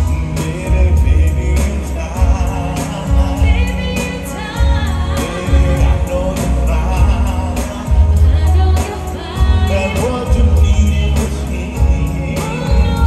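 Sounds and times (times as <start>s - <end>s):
r and b concert music: 0.0s - 13.0s.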